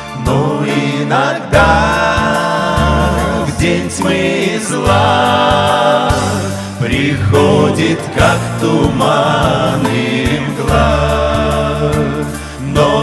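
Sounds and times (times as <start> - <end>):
keyboard accompaniment: 0.0 - 13.0
male vocal group singing: 0.0 - 13.0
steady bass line: 0.0 - 13.0.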